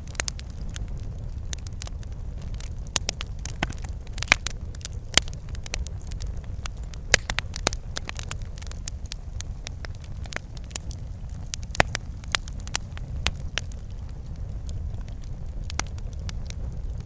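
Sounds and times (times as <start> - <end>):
low rumble of burning: 0.0 - 17.0
wood fire crackling and popping: 0.0 - 17.0.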